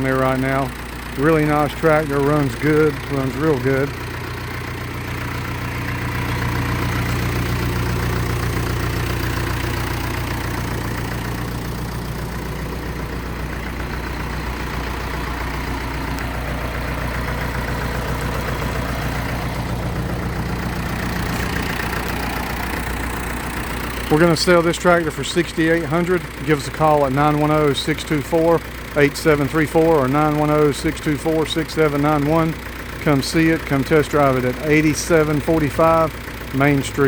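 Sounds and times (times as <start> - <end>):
tractor diesel engine idling: 0.0 - 37.0.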